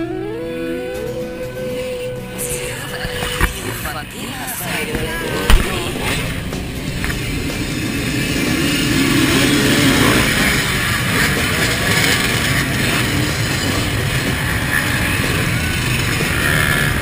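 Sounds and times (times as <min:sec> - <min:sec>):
motorcycles revving past: 0:00.0 - 0:17.0.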